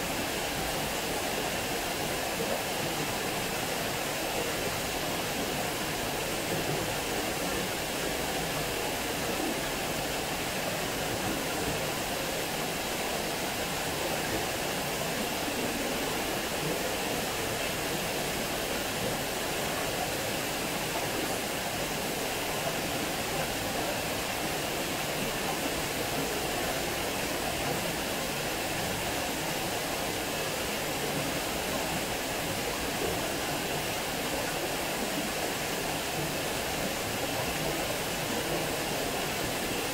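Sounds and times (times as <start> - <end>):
water rushing over weir: 0.0 - 39.9.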